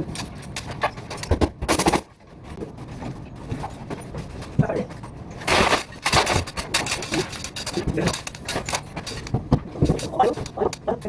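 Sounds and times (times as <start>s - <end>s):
knocks and clatter of building work: 0.0s - 11.0s.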